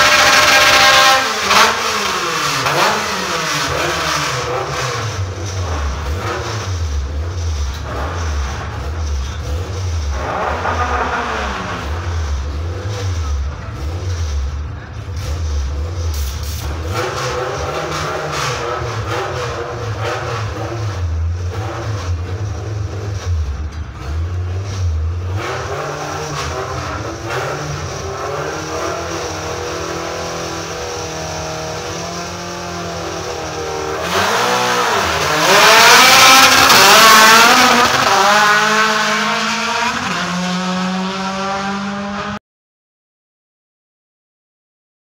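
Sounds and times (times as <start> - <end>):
race car accelerating hard: 0.0 - 42.4
race car engine idling with blips: 1.6 - 38.2.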